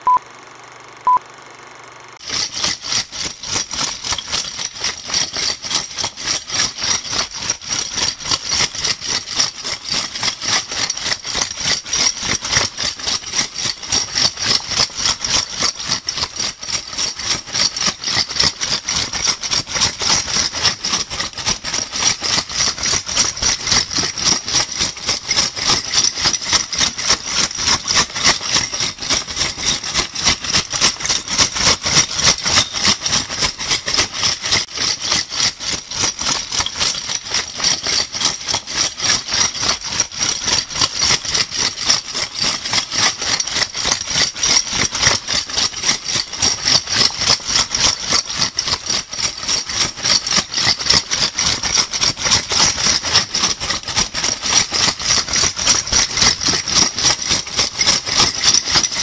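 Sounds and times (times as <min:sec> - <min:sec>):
metal bottle caps rattling in bag: 0:02.2 - 0:59.0.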